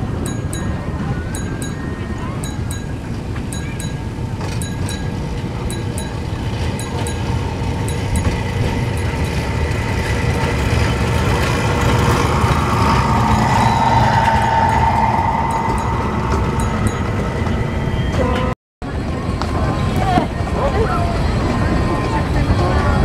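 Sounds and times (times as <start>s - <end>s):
steady whine: 0.0s - 18.5s
railcar rumble: 0.0s - 23.0s.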